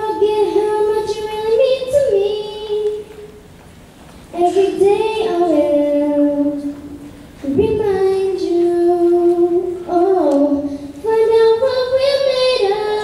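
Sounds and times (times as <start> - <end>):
girl singing into a microphone: 0.0 - 3.4, 4.2 - 13.0.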